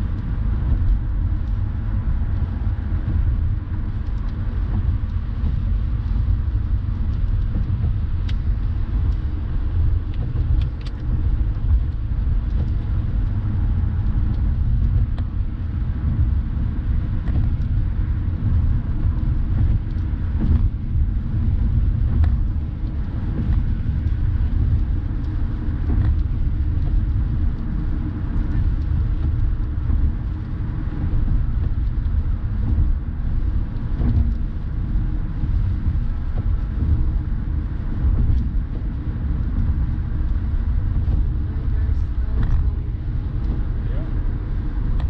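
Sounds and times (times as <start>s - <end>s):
road and engine rumble in car: 0.0s - 45.0s.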